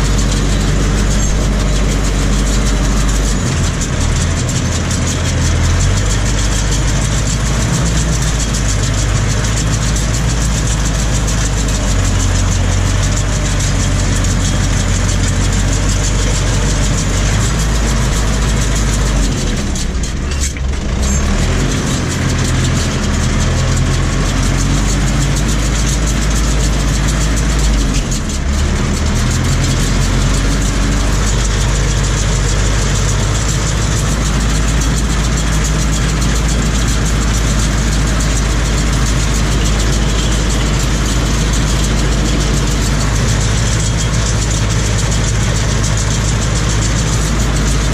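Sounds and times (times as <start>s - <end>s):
round baler working: 0.0s - 47.9s
tractor diesel engine running: 0.0s - 47.9s.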